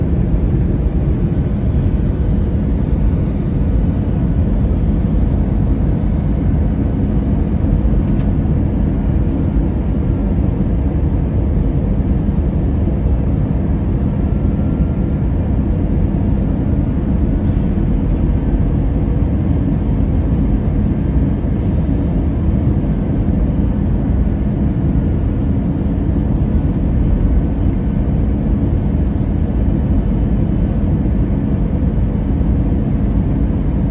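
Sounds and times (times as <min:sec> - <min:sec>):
faint high whine: 0:00.0 - 0:33.9
low rumble of engines and airflow: 0:00.0 - 0:33.9.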